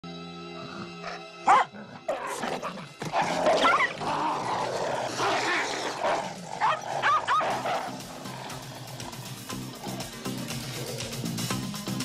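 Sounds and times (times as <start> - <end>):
animals snarling and growling: 0.5 - 11.6.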